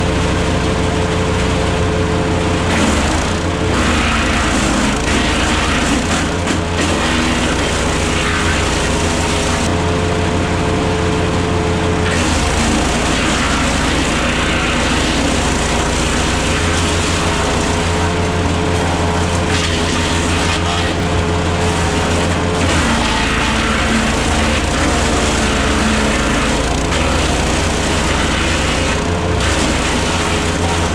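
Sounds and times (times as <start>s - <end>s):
rough noisy grinding sound: 0.0s - 30.9s
wood chipper engine running: 0.0s - 30.9s.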